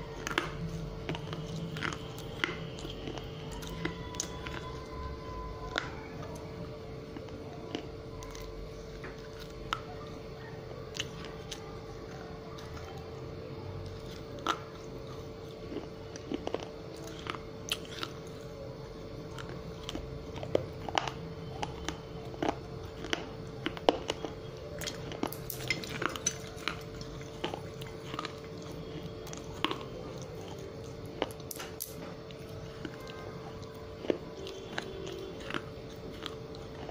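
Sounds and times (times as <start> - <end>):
crunching and chewing clay pieces: 0.0 - 36.9
faint hum: 0.0 - 36.9.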